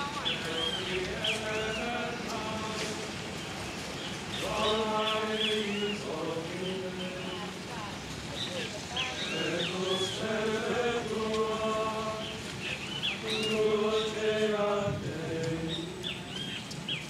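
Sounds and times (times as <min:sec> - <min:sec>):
clergy chanting in unison: 0:00.0 - 0:16.4.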